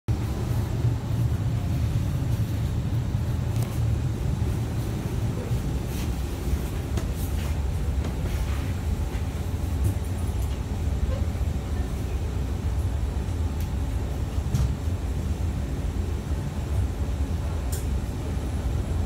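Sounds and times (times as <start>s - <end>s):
train car rumble: 0.1s - 19.0s.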